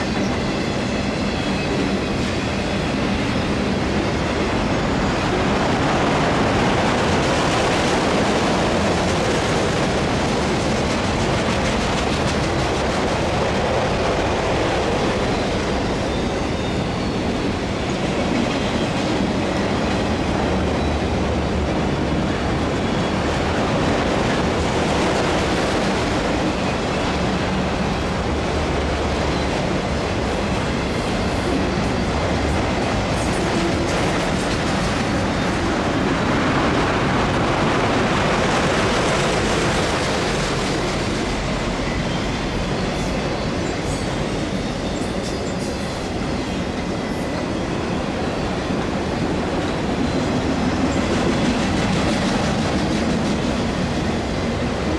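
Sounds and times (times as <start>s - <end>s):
train wheels rolling on rails: 0.0s - 54.9s.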